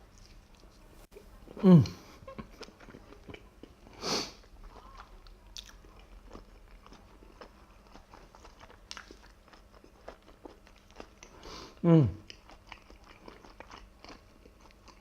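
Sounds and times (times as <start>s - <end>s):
wet chewing: 0.0s - 11.5s, 12.2s - 15.0s.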